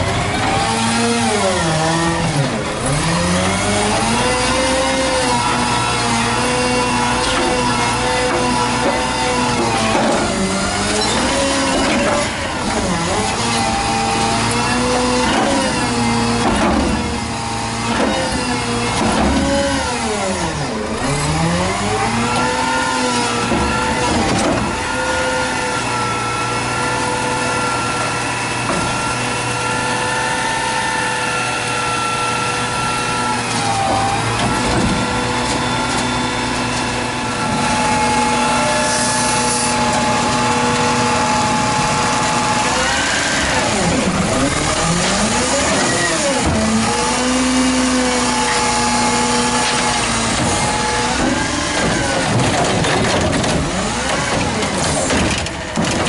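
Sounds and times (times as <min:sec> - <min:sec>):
garbage truck engine revving: 0:00.0 - 0:56.0
hydraulic whine: 0:00.0 - 0:56.0.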